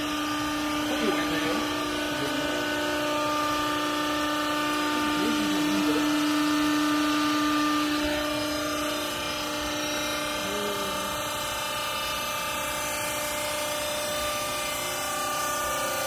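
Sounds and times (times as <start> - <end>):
motor and hydraulic pump humming: 0.0 - 16.0.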